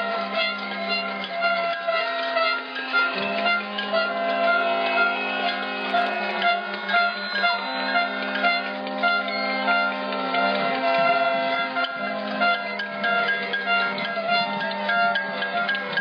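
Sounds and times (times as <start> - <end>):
continuous low drone: 0.0 - 16.0
wind instrument melody: 0.0 - 16.0.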